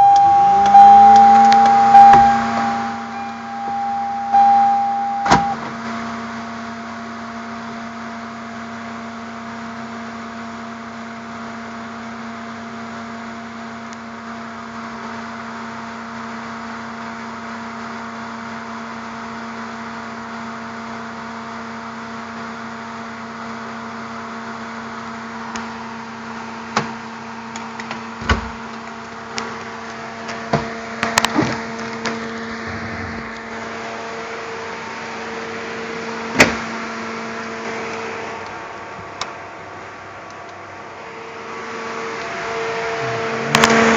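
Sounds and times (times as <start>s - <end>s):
cooling fan whirring: 0.0s - 43.9s.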